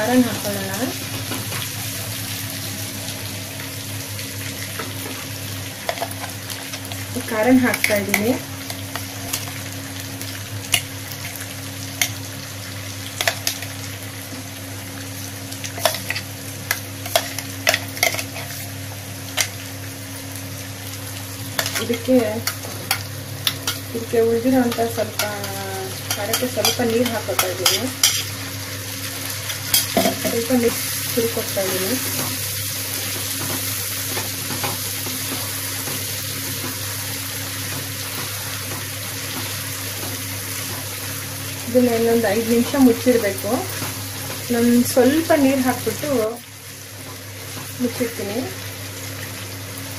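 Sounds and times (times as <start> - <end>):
vegetables frying in a pan: 0.0 - 49.9.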